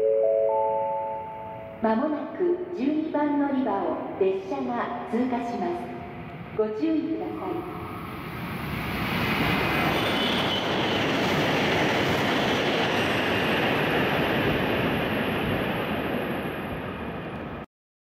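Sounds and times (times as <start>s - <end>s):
high-speed train passing: 0.0s - 17.7s.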